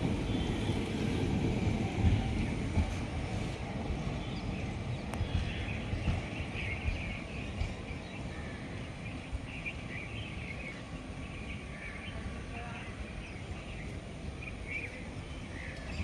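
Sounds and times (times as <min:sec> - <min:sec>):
birds chirping: 0:00.0 - 0:16.0
train rumble: 0:00.0 - 0:16.0.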